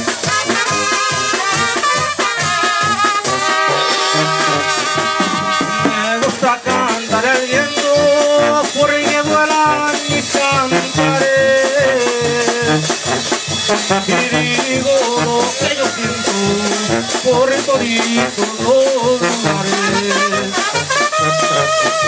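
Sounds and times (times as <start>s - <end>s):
bass drum beat: 0.0s - 22.0s
trumpets: 0.0s - 22.0s.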